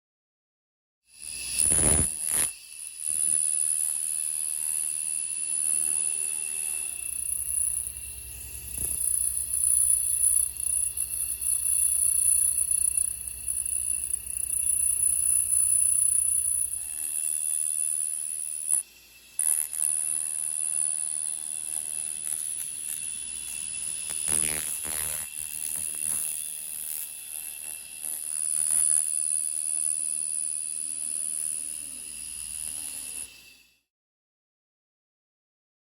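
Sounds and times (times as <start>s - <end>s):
laser cleaner whine and buzz: 1.2s - 33.8s.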